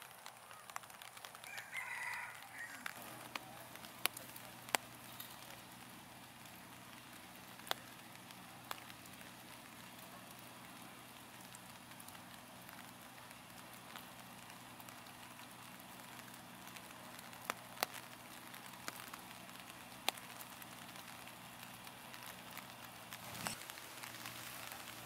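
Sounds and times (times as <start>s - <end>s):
light rain hiss: 0.0s - 25.0s
drip-like ticks: 2.5s - 25.0s.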